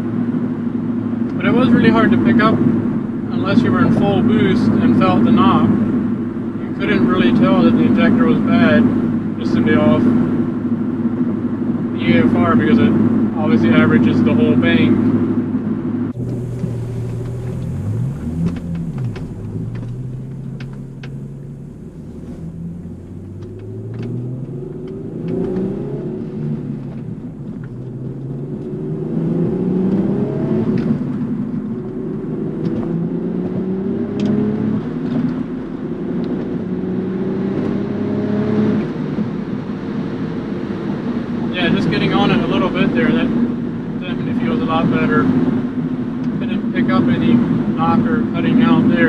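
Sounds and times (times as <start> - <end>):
car engine accelerating through gears: 0.0 - 49.0.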